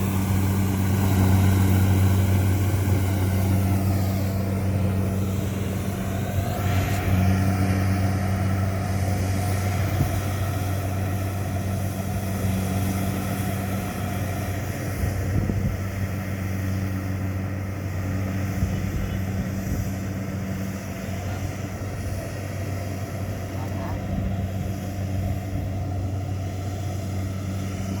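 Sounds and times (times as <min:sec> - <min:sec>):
harvesting machinery engines humming: 0:00.0 - 0:28.0.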